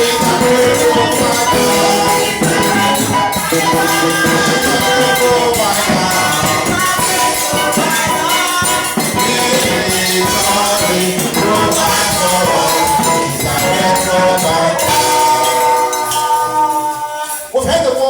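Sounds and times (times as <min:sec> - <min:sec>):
band playing praise music: 0:00.0 - 0:18.0
drums and hand percussion: 0:00.0 - 0:18.0.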